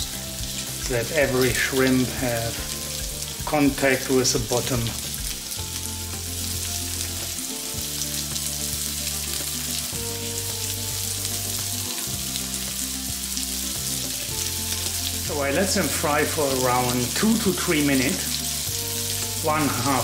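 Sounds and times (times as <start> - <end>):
background music of held notes: 0.0 - 20.0
shrimp sizzling in oil: 0.0 - 20.0.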